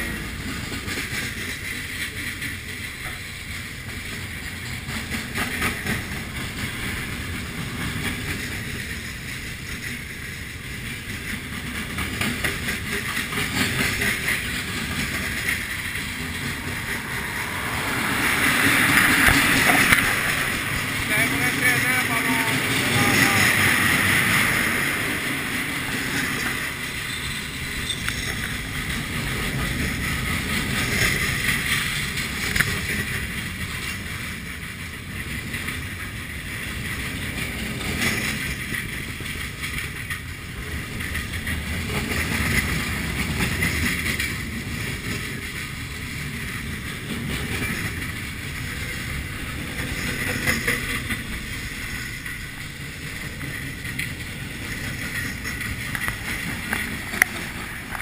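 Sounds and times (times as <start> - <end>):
high rail noise: 0.0 - 58.0
train wheels rumbling on rails: 0.0 - 58.0.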